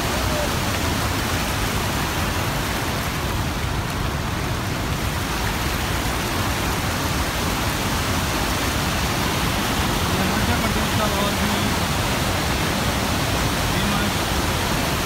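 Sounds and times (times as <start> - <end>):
river rapids rushing over rocks: 0.0 - 15.0.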